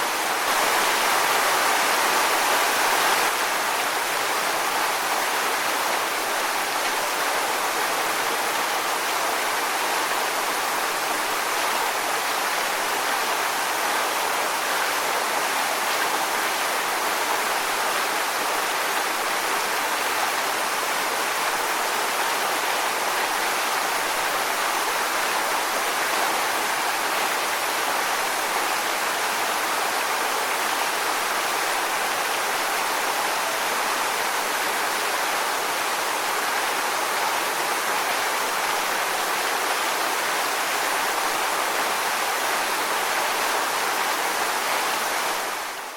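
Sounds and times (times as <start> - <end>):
waterfall onto rocks: 0.0 - 45.9.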